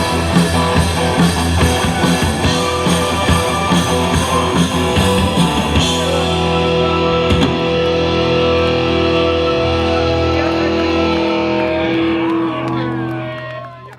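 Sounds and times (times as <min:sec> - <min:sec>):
drumming: 0:00.0 - 0:13.4
electric guitars sustained chord: 0:00.0 - 0:13.9.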